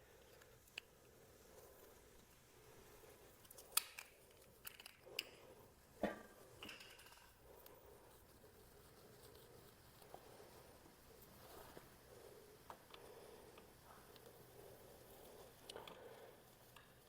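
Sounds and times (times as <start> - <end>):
faint clicks and knocks of tools: 0.0 - 17.0.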